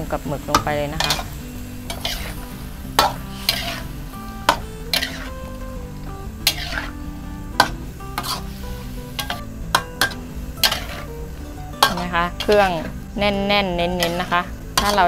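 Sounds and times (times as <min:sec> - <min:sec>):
food sizzling in a wok: 0:00.0 - 0:15.0
metal spatula scraping a pan: 0:00.5 - 0:05.6, 0:06.4 - 0:07.0, 0:07.6 - 0:15.0.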